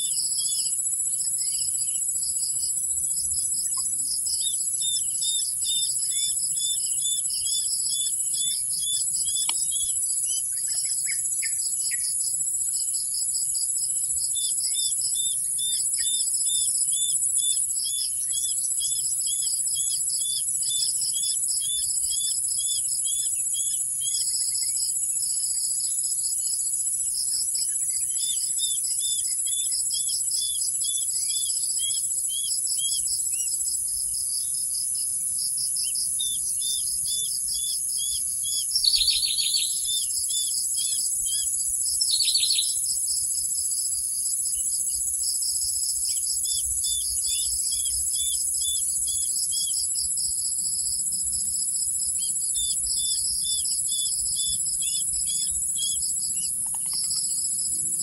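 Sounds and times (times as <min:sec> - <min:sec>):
crickets and insects trilling: 0:00.0 - 0:58.0
short insect chirps: 0:00.0 - 0:58.0.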